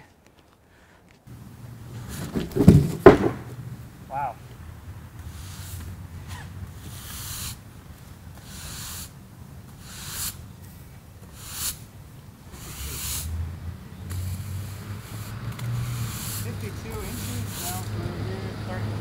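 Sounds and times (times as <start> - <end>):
push broom sweeping wood: 1.4 - 3.8, 5.2 - 19.0.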